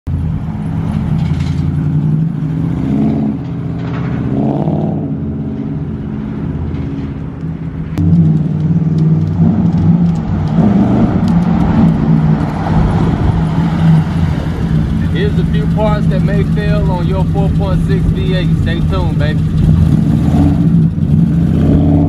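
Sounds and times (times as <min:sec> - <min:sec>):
car engine driving along: 0:00.1 - 0:22.0.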